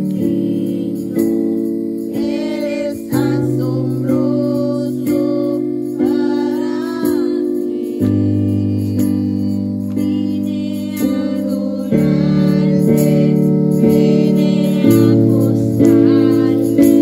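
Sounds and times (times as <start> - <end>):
instrumental chords: 0.0 - 17.0
person singing worship song: 0.0 - 17.0.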